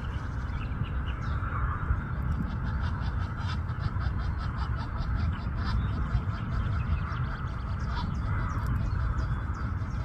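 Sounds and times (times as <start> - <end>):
steady low rumble: 0.0 - 10.0
goose honking: 1.3 - 10.0.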